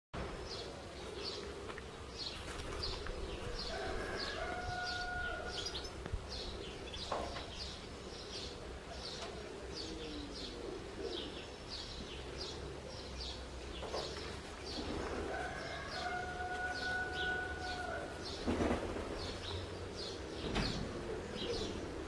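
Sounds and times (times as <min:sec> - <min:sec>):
low outdoor background: 0:00.2 - 0:22.0
small birds chirping: 0:00.4 - 0:22.0.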